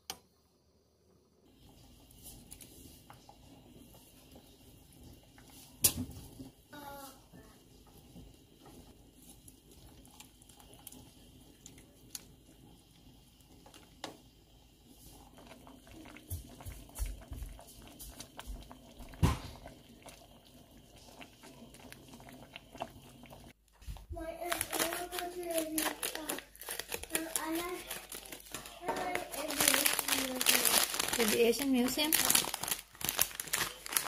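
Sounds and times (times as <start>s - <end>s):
soup bubbling: 1.4s - 34.0s.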